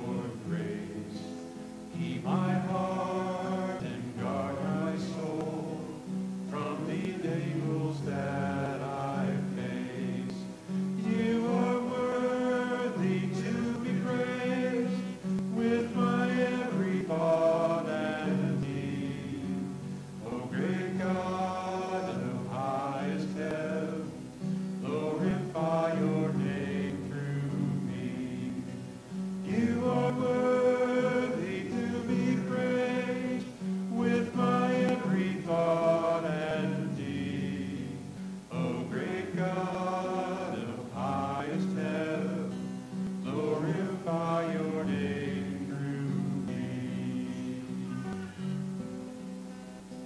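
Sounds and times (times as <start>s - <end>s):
voices singing worship song: 0.0s - 48.9s
strummed guitars: 0.0s - 50.0s.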